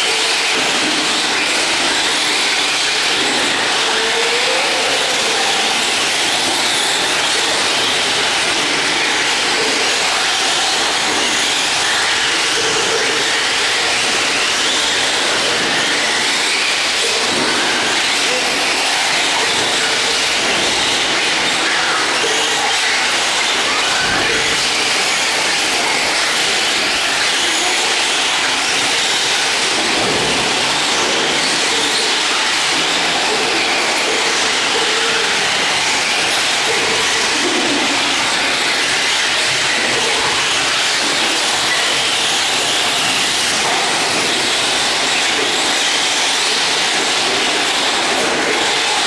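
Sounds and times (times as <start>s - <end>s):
radio-controlled trucks running: 0.0s - 49.0s.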